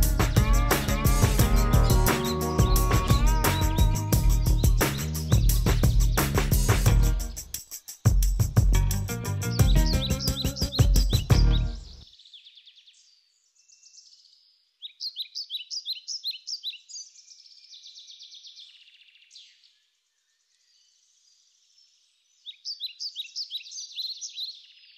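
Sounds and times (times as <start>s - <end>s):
songbirds chirping and trilling: 0.0s - 24.9s.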